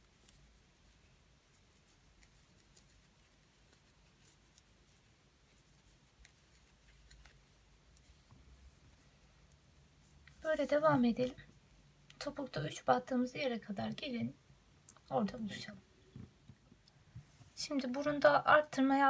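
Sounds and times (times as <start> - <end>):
crochet hook and yarn rustling: 0.0 - 18.9.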